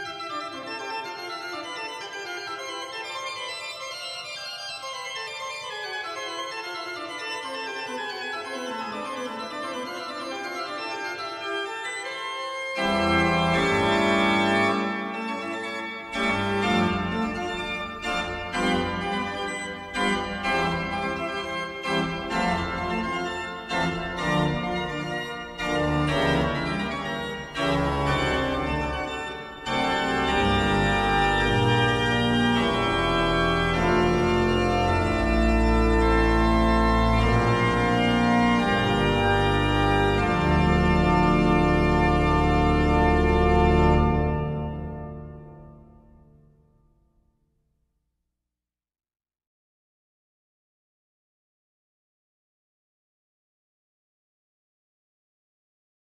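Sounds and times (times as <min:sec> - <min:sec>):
pipe organ music: 0:00.0 - 0:46.6.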